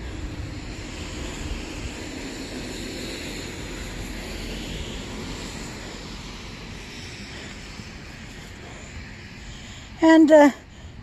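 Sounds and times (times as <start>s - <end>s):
outdoor rushing noise: 0.0s - 11.0s
wind rumbling on microphone: 0.0s - 11.0s.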